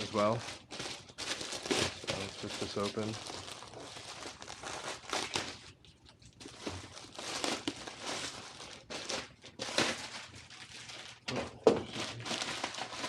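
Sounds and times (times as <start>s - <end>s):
parcel packaging being ripped open: 0.0s - 5.8s, 6.4s - 11.3s.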